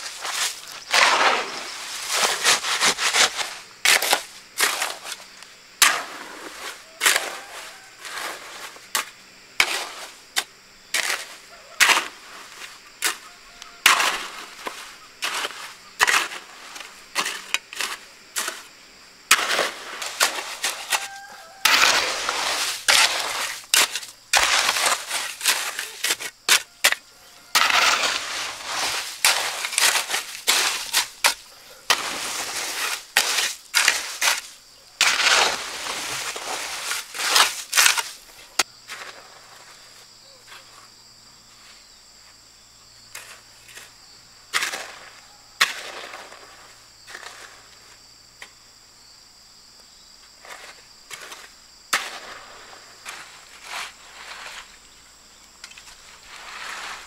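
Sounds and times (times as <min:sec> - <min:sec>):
shovel scraping wet cement: 0:00.0 - 0:39.8, 0:43.1 - 0:43.9, 0:44.5 - 0:48.5, 0:50.4 - 0:57.0
high insect drone: 0:00.0 - 0:57.0.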